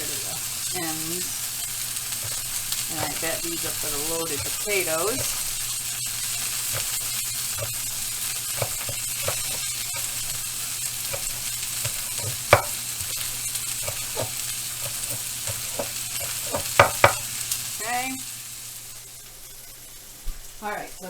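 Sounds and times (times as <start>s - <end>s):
patties sizzling in a frying pan: 0.0s - 21.0s.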